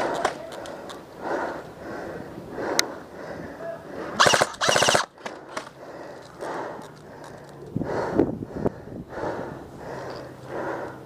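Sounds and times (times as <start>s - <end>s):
heavy breathing: 0.0s - 4.2s, 5.2s - 11.0s.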